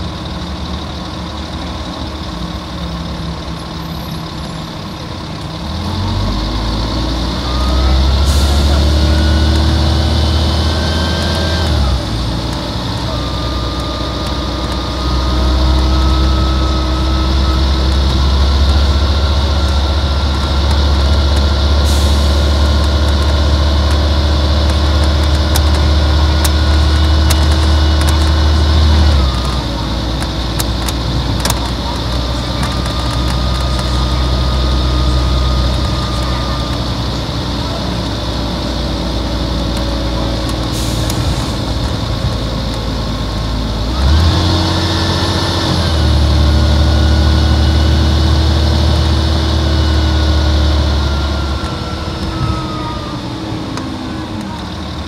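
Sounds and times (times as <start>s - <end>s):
bus diesel engine under load: 0.0s - 55.0s.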